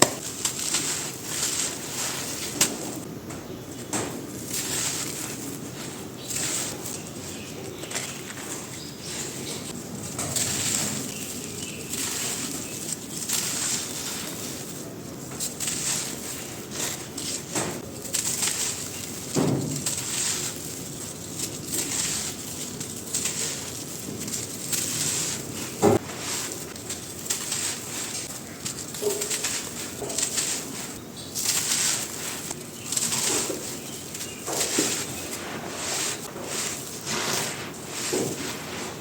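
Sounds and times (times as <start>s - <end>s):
sand crumbling and crunching: 0.0s - 39.0s.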